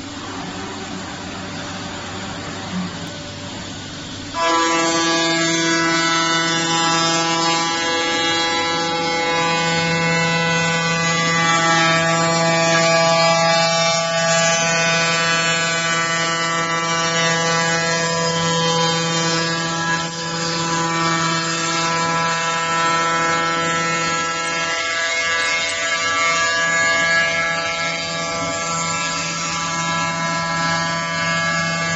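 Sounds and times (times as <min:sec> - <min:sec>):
router spindle whine: 0:00.0 - 0:31.9.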